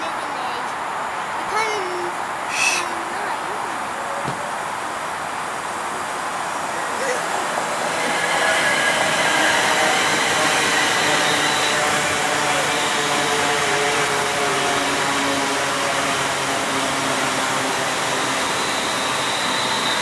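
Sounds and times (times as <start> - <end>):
electric train whirring hum: 0.0 - 20.0.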